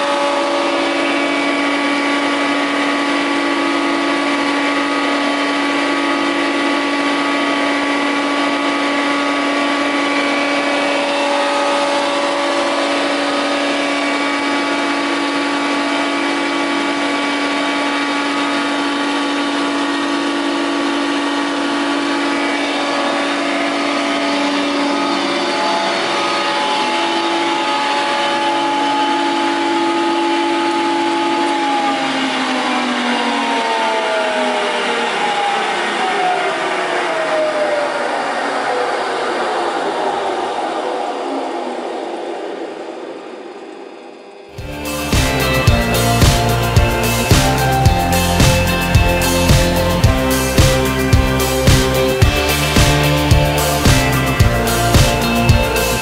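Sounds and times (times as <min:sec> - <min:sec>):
planer machine hum: 0:00.0 - 0:36.3, 0:43.5 - 0:56.0
faint machine whine: 0:00.0 - 0:56.0.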